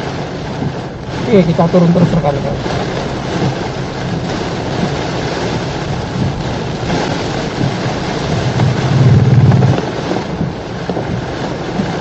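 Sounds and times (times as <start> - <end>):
low rumble: 0.0 - 11.2
rain on car: 0.0 - 12.0
tyre and wind noise: 0.0 - 12.0.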